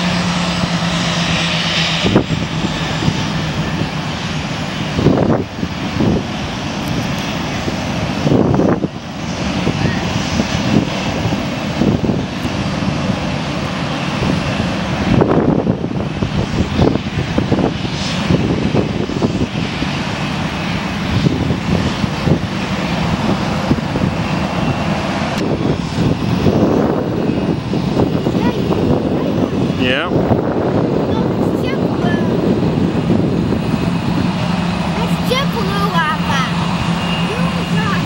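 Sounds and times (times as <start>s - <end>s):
jet engines running at taxi: 0.0s - 38.0s.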